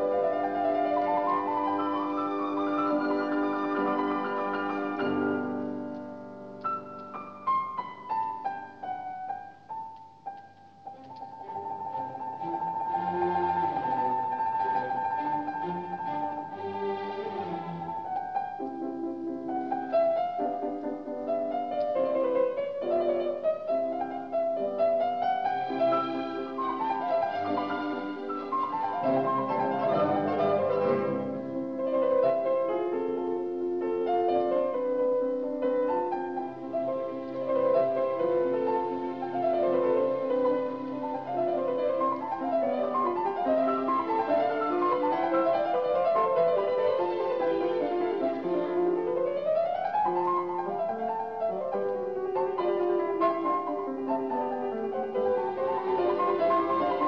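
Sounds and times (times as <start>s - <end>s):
instrumental music: 0.0s - 57.0s.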